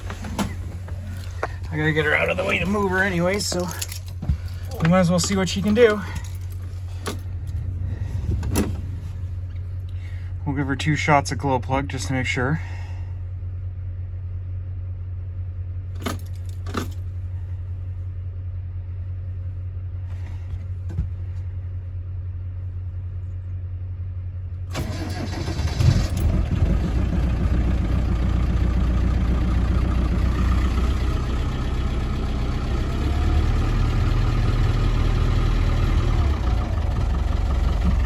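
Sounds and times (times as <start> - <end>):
low steady hum: 0.0 - 32.1
diesel engine cranking and idling: 0.0 - 38.0.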